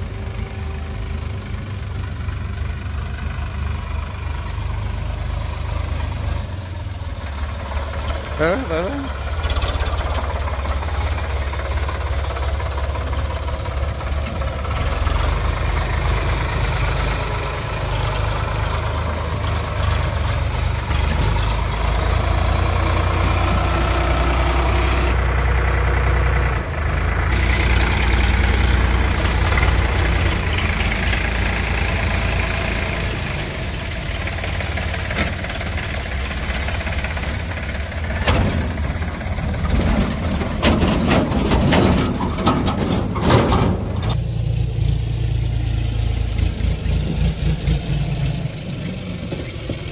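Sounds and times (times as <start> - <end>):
tractor diesel engine rumbling: 0.0 - 49.9.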